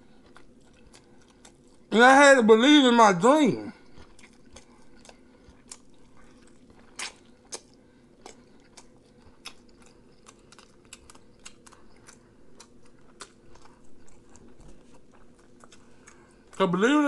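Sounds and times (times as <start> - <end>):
person chewing food: 0.0 - 1.9, 3.6 - 16.8.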